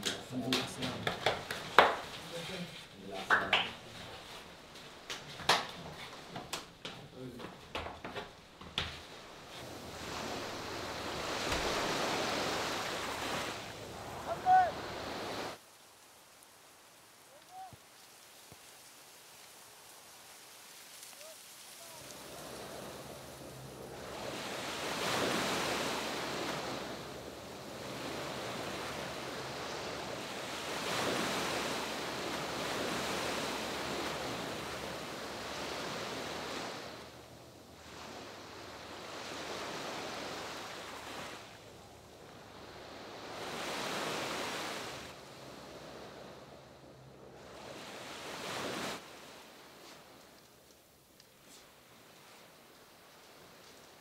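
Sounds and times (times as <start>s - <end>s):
surf washing up a beach: 0.0s - 8.2s, 8.8s - 54.0s.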